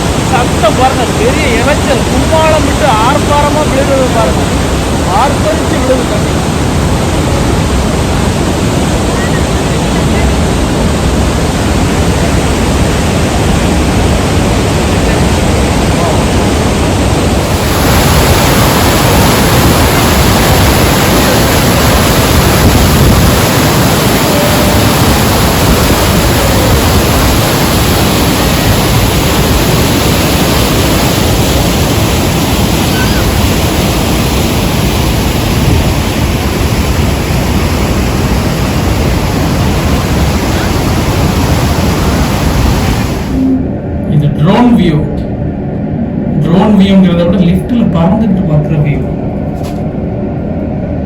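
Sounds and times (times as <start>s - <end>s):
waterfall roaring: 0.0s - 43.6s.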